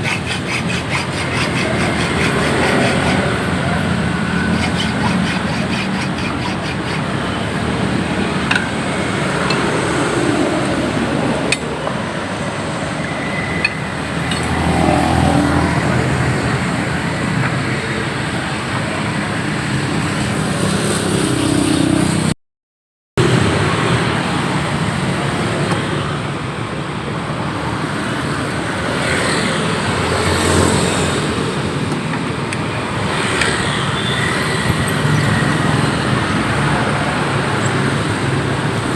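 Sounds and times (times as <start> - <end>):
road traffic noise: 0.0 - 22.4, 23.2 - 38.9.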